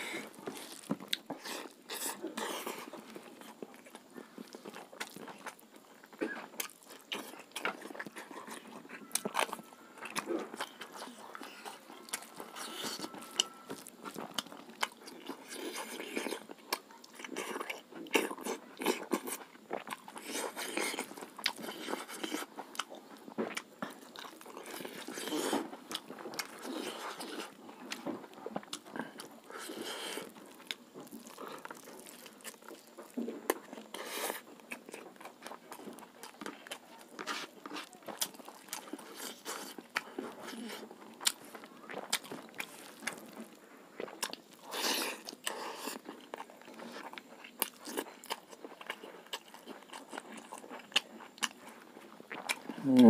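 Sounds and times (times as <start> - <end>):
man chewing food: 0.0 - 53.0.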